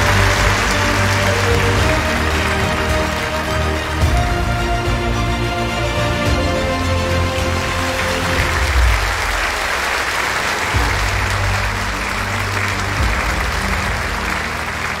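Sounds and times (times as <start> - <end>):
audience applauding: 0.0 - 15.0
music playing: 0.0 - 15.0.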